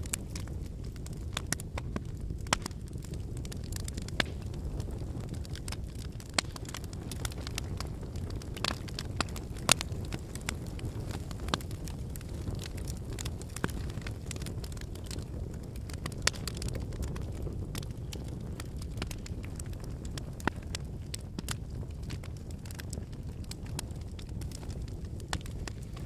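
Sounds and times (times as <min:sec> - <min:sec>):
campfire flames rumbling: 0:00.0 - 0:26.0
firewood crackling and popping: 0:00.0 - 0:26.0.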